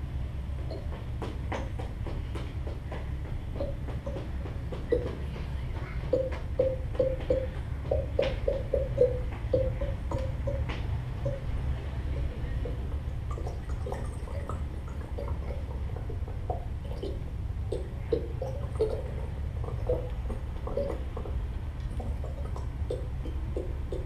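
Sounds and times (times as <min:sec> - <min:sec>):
low amplifier hum: 0:00.0 - 0:24.0.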